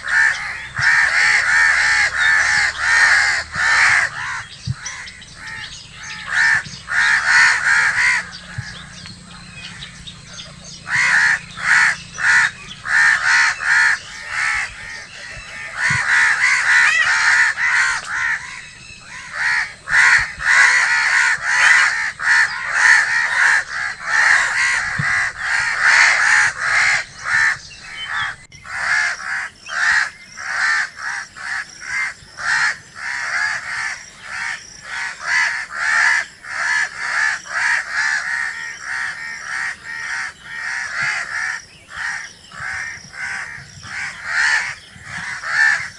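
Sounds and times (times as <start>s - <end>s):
crows cawing: 0.0s - 45.9s.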